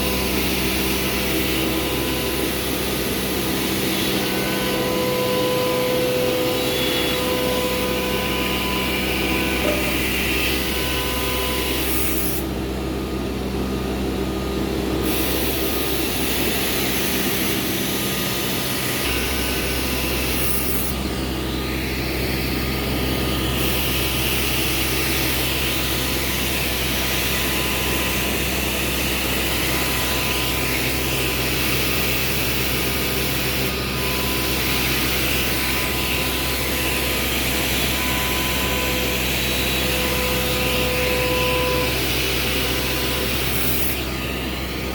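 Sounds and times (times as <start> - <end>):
router machinery humming and hissing: 0.0 - 44.9.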